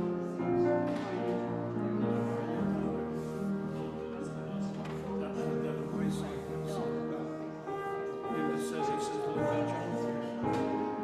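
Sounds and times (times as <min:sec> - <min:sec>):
instrumental music with held notes: 0:00.0 - 0:11.0.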